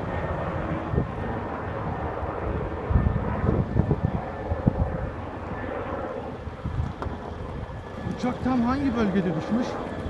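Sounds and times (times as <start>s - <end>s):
steady outdoor rumble: 0.0s - 10.0s
wind buffeting microphone: 0.0s - 10.0s.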